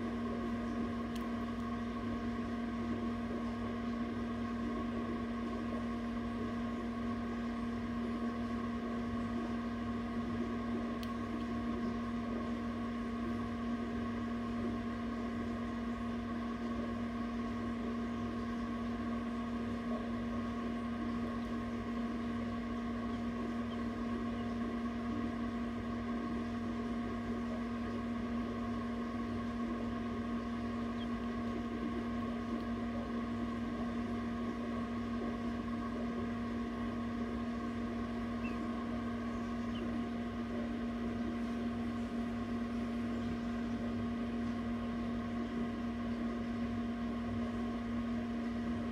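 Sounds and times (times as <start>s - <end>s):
egg incubator humming: 0.0s - 48.9s.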